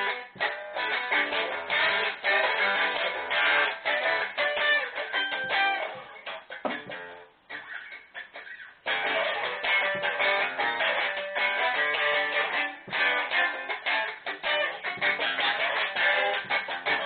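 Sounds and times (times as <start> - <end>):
solo guitar playing: 0.0 - 8.0, 8.8 - 17.0.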